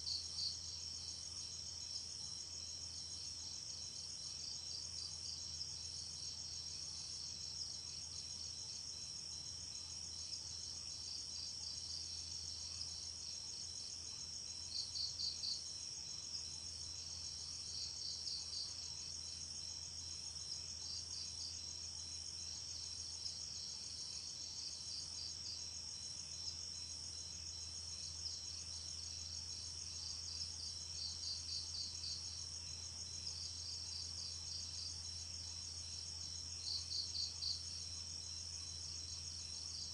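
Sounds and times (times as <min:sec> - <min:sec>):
rapid pulsed insect chirps: 0:00.0 - 0:39.9.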